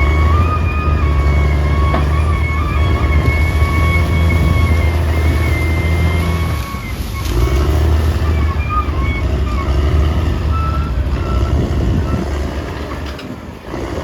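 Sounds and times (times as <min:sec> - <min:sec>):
high squealing tones: 0:00.0 - 0:13.2
bulldozer diesel engine under load: 0:00.0 - 0:14.0.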